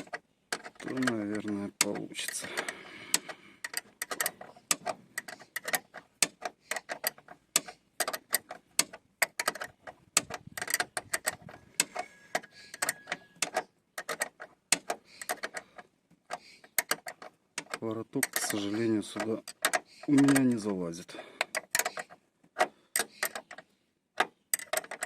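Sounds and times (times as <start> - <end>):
wrench clicking: 0.0 - 15.6, 16.3 - 20.6, 21.4 - 23.6, 24.2 - 25.0.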